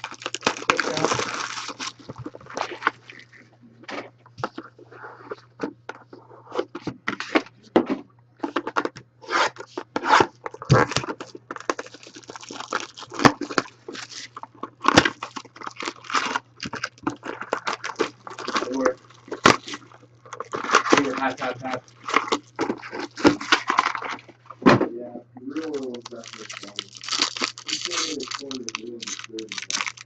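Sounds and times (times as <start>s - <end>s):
card packaging crinkling: 0.0s - 7.5s, 8.4s - 24.6s, 25.5s - 30.0s
steady low hum: 0.0s - 30.0s.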